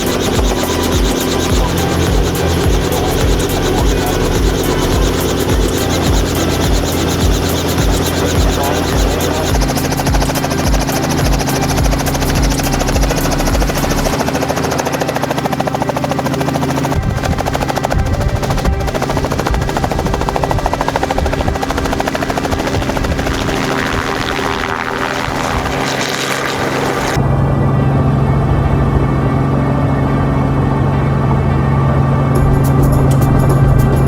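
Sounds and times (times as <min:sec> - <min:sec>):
helicopter rotor beating: 0:00.0 - 0:27.4, 0:29.4 - 0:34.0.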